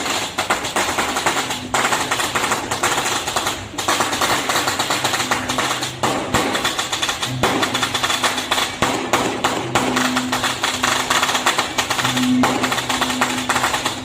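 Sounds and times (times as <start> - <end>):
drums: 0.0 - 14.0
firecrackers crackling: 0.0 - 14.0
gongs: 0.0 - 14.0.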